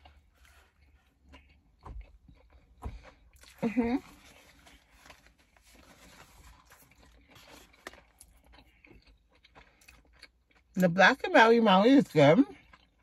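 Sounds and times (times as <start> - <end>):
faint chewing: 0.0 - 11.0, 12.4 - 13.0.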